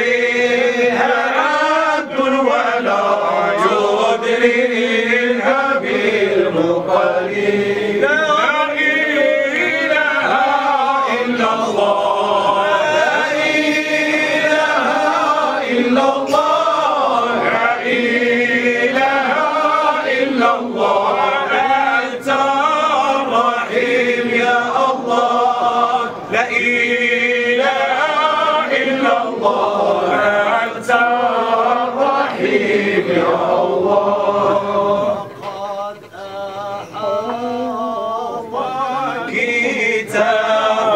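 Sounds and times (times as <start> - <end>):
men chanting in unison: 0.0 - 40.9.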